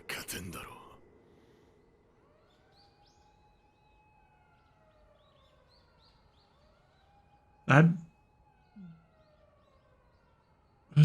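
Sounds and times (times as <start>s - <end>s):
faint wailing siren: 0.0s - 11.0s.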